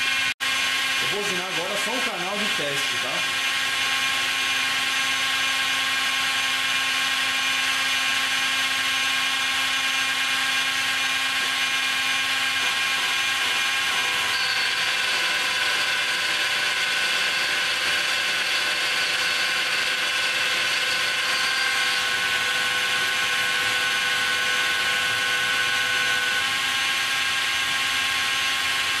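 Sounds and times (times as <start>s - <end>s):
end mill cutting metal: 0.0s - 29.0s
grinder motor whine: 0.0s - 29.0s.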